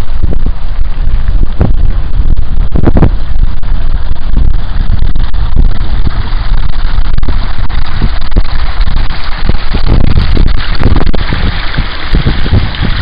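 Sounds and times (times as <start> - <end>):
water rushing over a weir: 0.0 - 13.0
wind buffeting microphone: 0.0 - 13.0.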